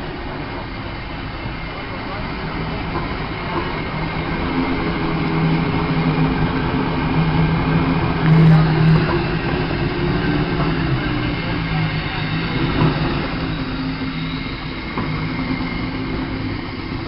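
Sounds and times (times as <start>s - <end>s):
steam roller rumble and clatter: 0.0s - 17.0s.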